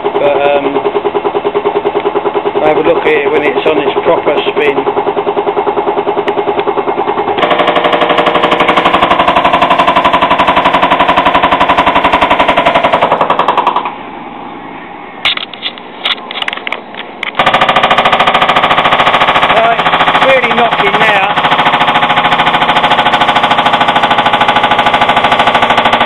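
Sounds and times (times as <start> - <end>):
washing machine drum knocking: 0.0 - 13.8, 18.2 - 26.0.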